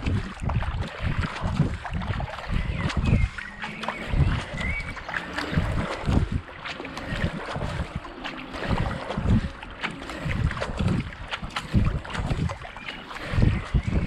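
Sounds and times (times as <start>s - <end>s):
kayak paddle strokes splashing: 0.0s - 14.0s
wind buffeting microphone: 0.0s - 14.0s.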